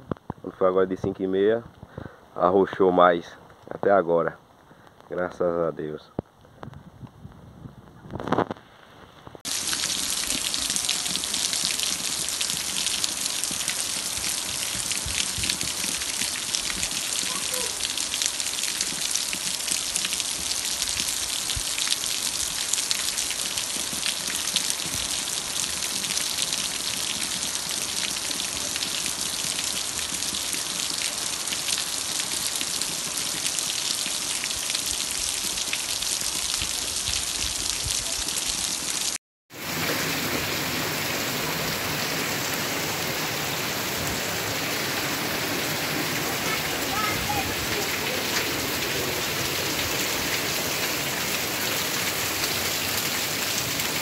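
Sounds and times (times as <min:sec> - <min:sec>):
steady rain falling: 0:09.2 - 0:54.0.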